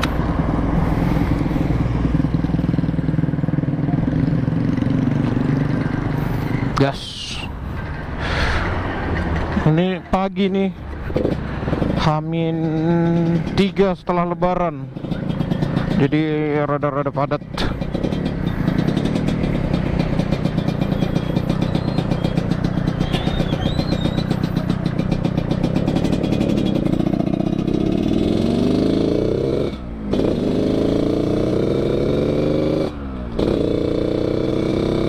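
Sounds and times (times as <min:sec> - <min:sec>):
two-stroke motorcycle engine revving: 0:01.4 - 0:06.8, 0:11.1 - 0:35.0.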